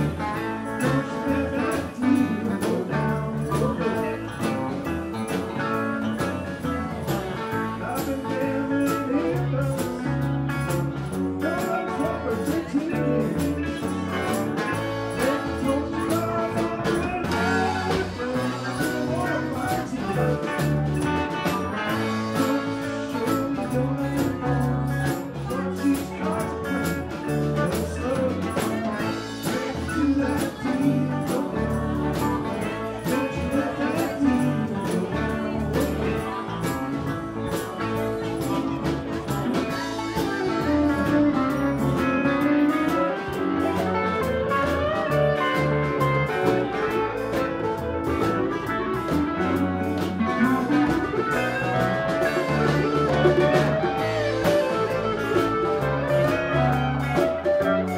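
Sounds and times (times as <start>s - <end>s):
live band playing music: 0.0s - 57.9s.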